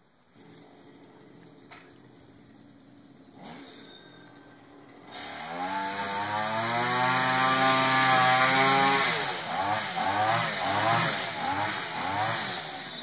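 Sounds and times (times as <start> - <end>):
petrol engine revving: 0.2 - 13.0.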